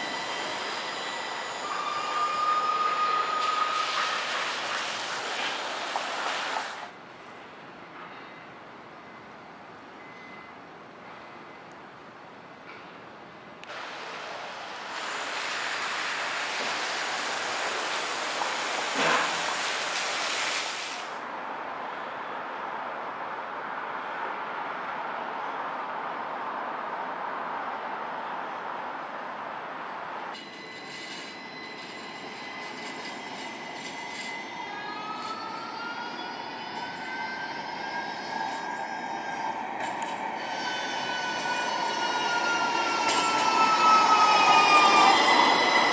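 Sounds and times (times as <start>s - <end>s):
streetcar running noise: 0.0s - 19.6s, 21.1s - 45.9s.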